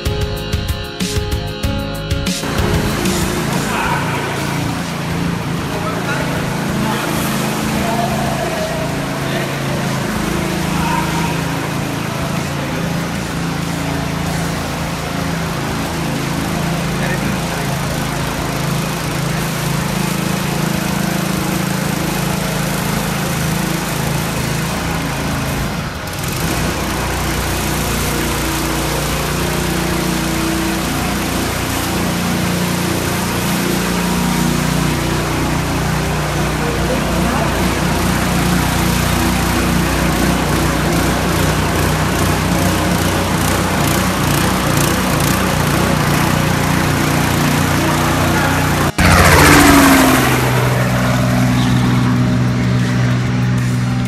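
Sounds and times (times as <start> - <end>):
pump motor drone: 0.0 - 54.0
spray nozzles hissing: 0.0 - 54.0
small petrol engine running: 2.4 - 54.0.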